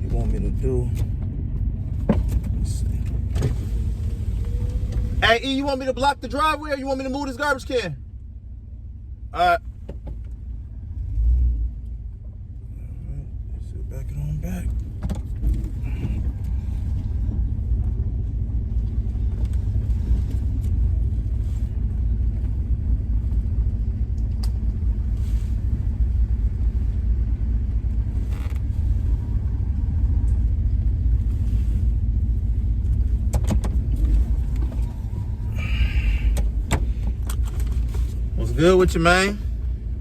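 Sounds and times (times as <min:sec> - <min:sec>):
vehicle engine low rumble: 0:00.0 - 0:40.0.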